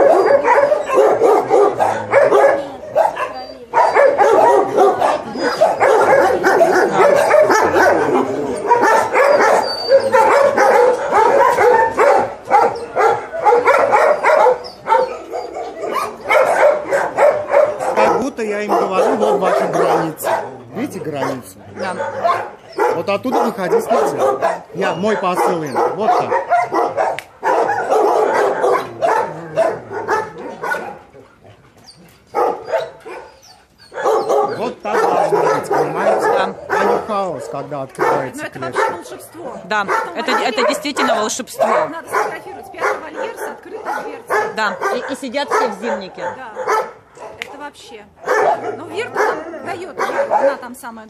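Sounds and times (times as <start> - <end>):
many dogs barking: 0.0 - 51.0.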